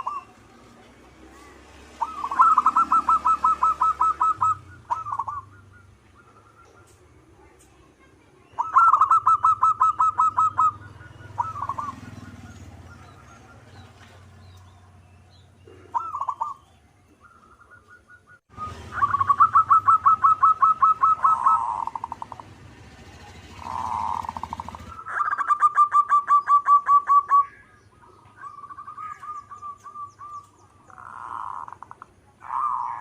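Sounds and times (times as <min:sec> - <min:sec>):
dove cooing: 0:00.0 - 0:07.6, 0:08.5 - 0:14.5, 0:15.6 - 0:33.0.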